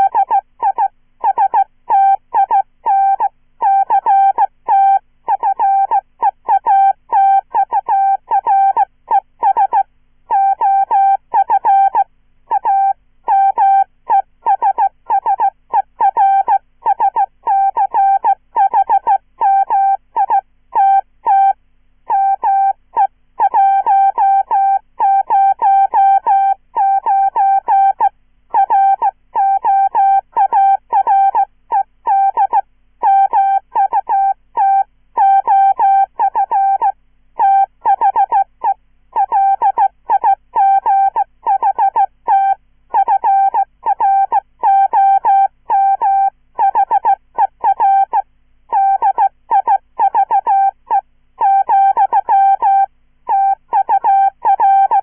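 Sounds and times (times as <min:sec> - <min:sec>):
chirpy morse code beeps: 0:00.0 - 0:55.0.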